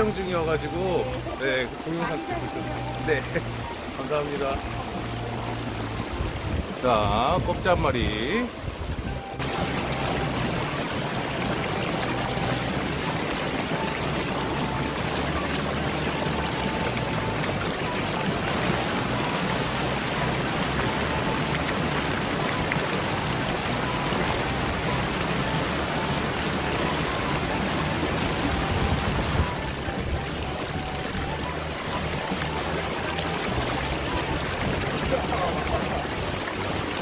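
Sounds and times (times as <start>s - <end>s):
river water rushing over rocks: 0.0s - 37.0s.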